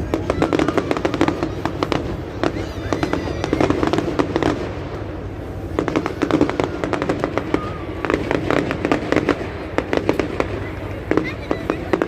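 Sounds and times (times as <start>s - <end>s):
fireworks crackling bangs: 0.0s - 12.0s.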